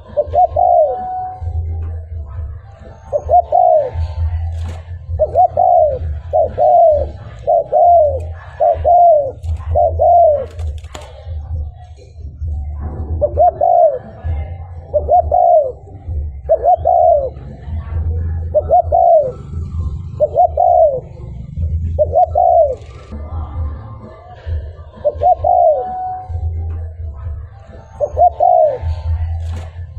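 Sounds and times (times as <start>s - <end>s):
dove cooing: 0.0s - 29.9s.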